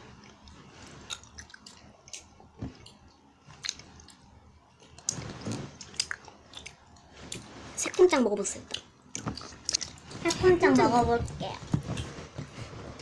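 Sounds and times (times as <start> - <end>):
chewing gummy candy: 0.1 - 10.9.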